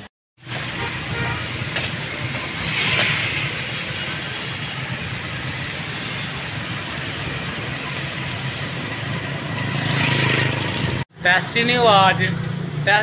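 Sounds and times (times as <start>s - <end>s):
tyres on wet road: 0.4s - 13.0s.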